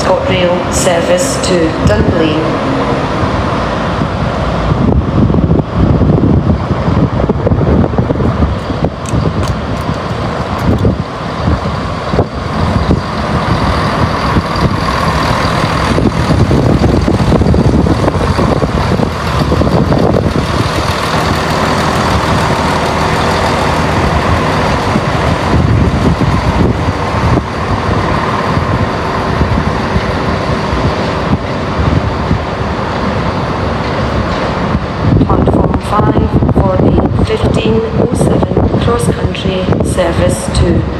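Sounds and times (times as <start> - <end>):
train engine rumble: 0.0 - 40.9.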